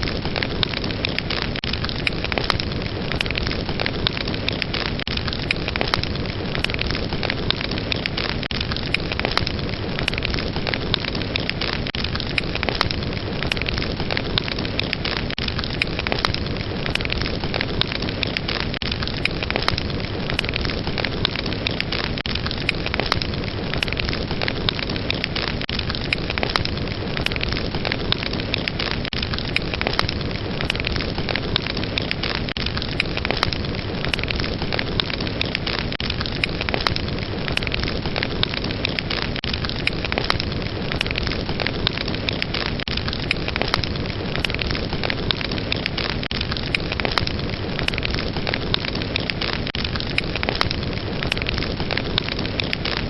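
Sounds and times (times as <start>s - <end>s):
fire roaring and crackling: 0.0s - 53.0s.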